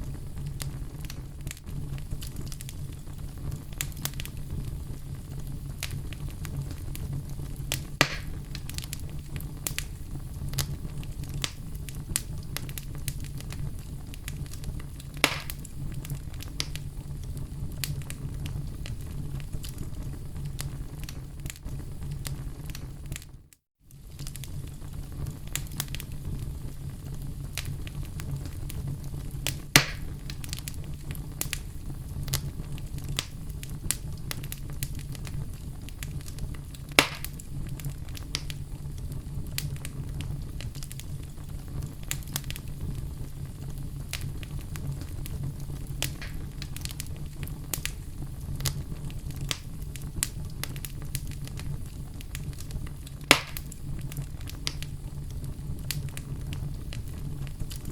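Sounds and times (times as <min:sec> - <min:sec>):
loud fire pops: 0:00.0 - 0:57.9
low fire rumble: 0:00.0 - 0:57.9
wood fire crackling: 0:00.0 - 0:57.9.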